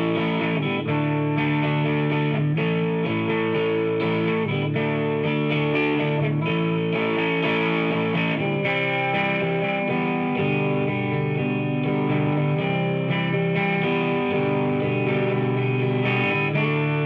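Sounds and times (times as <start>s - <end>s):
electric guitar background music: 0.0s - 17.0s.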